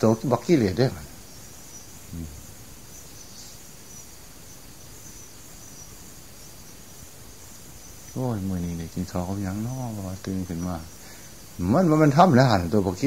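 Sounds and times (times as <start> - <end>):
background hiss: 0.0 - 13.0
high-pitched insect trill: 0.0 - 13.0.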